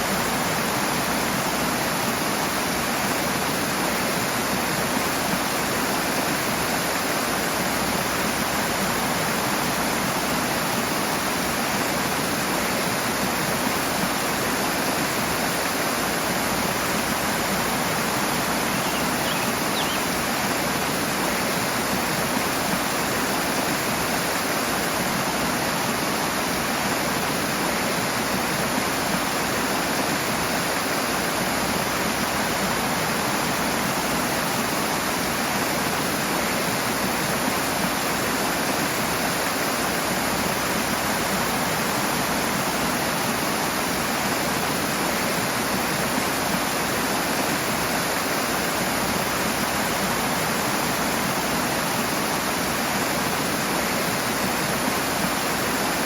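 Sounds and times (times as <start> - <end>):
rushing water roar: 0.0 - 56.0.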